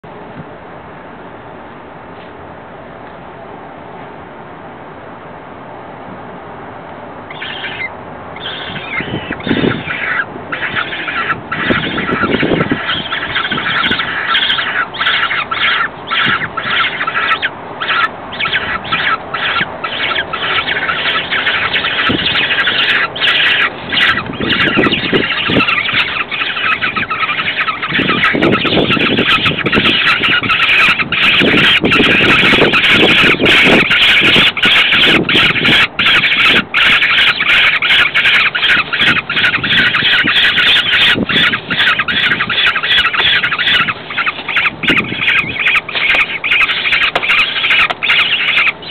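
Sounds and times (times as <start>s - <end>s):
falcon chicks begging calls: 7.2s - 48.9s.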